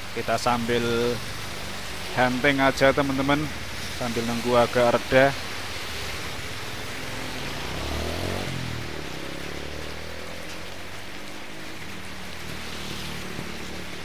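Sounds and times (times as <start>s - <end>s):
heavy rain on wet road: 0.0s - 14.0s
small motorbikes passing: 1.0s - 14.0s.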